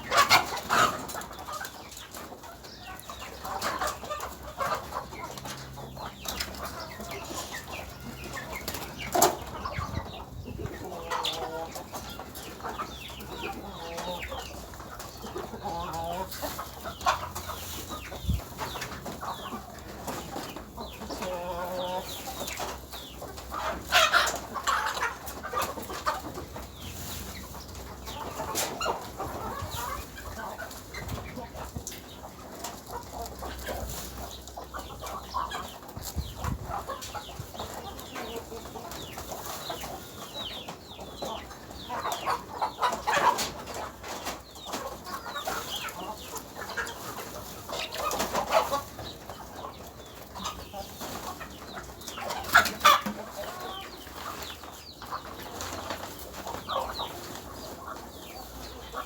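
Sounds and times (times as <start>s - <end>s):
chickens clucking and calling: 0.0s - 59.0s.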